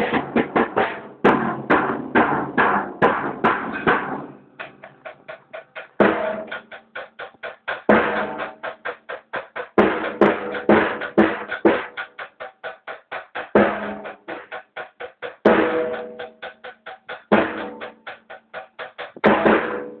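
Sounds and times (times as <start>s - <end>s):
drum kit played fast: 0.0s - 20.0s.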